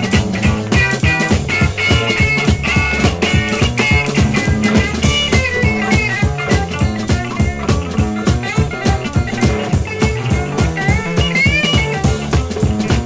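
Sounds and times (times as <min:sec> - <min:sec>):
drum kit beat: 0:00.0 - 0:13.0
low repeating guitar figure: 0:00.0 - 0:13.0
sliding high guitar lines: 0:00.0 - 0:13.0.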